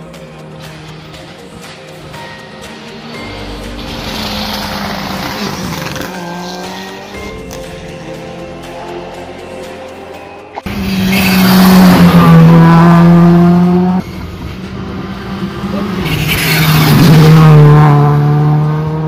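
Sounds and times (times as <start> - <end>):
rally car engine at full speed: 0.0 - 9.4, 10.2 - 19.0
rally car approaching and passing: 0.8 - 7.5, 10.2 - 19.0.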